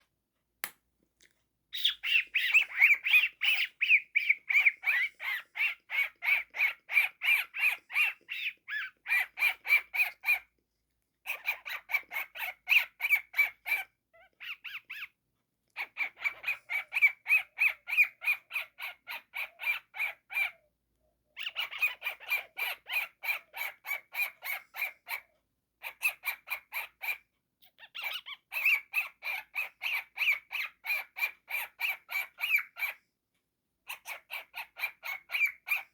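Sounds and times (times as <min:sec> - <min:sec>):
cockatiel squawky chirps: 0:01.8 - 0:10.5, 0:11.3 - 0:15.2, 0:15.8 - 0:20.6, 0:21.4 - 0:33.0, 0:33.9 - 0:35.9.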